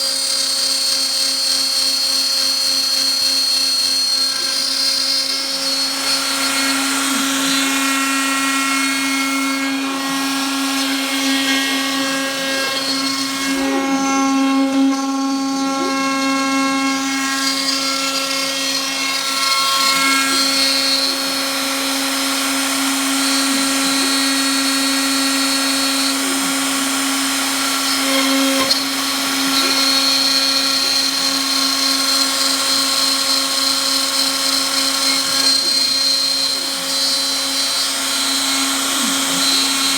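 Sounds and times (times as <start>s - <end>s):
spindle motor whine: 0.0s - 39.9s.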